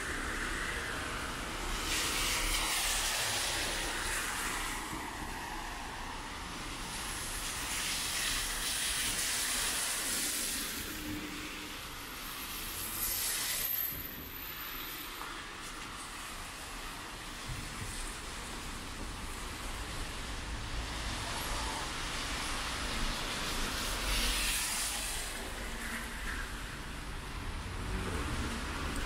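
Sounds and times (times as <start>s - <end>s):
tyres hissing on wet road: 0.0s - 29.0s.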